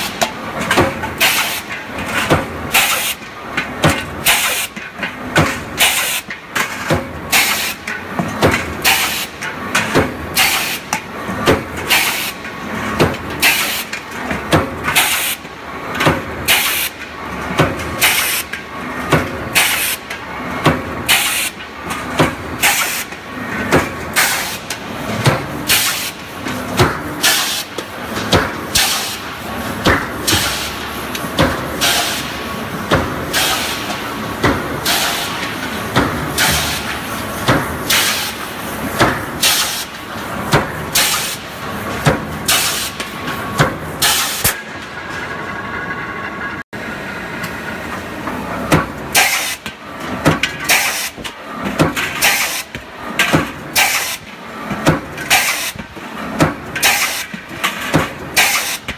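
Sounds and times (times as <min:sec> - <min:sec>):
machine running steadily: 0:00.0 - 0:58.9.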